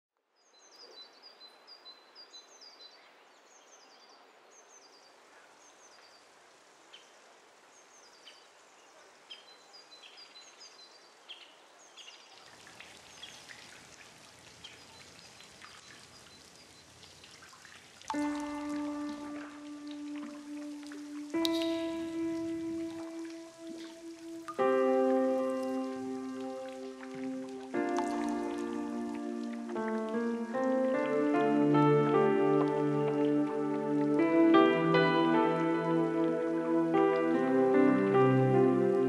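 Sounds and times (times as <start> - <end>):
songbird chirping: 0.3 - 39.0
soft hiss: 0.6 - 38.0
raindrops pattering: 5.2 - 39.0.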